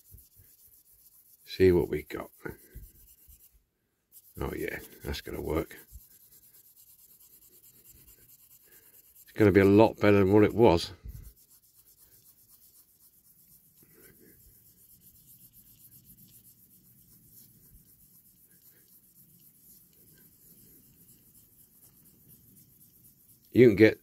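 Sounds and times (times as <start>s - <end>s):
buffer block rubbing plastic: 0.0s - 24.0s.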